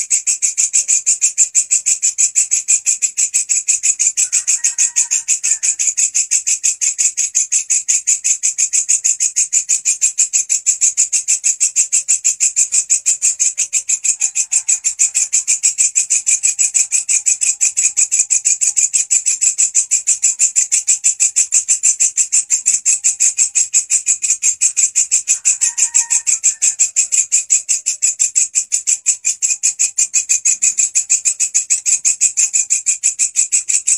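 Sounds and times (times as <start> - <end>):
grasshopper chirping shrilly: 0.0 - 33.9.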